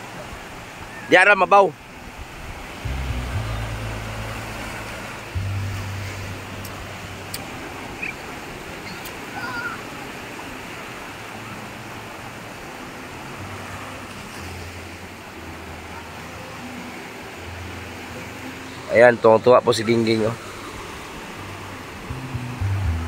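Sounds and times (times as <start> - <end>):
sea surf washing in shallows: 0.0 - 23.0.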